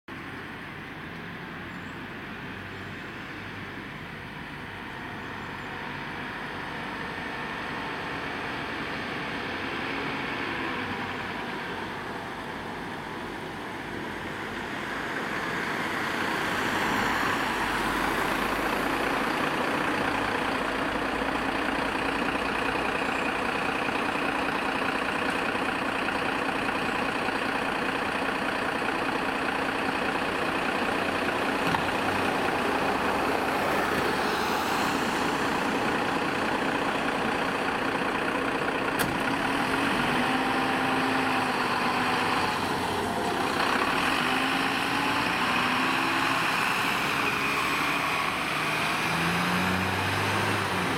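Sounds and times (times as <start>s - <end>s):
truck diesel engine idling: 0.2s - 50.9s.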